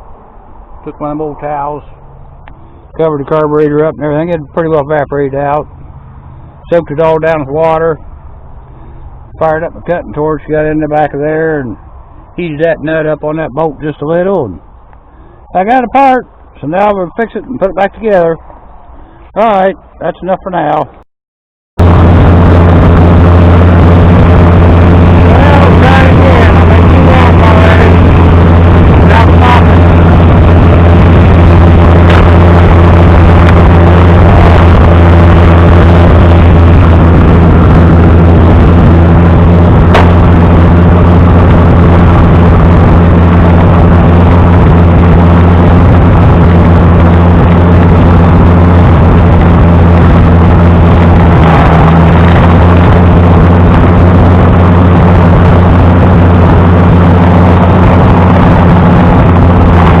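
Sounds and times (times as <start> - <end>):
engine running loud: 0.0 - 19.8, 21.8 - 60.0.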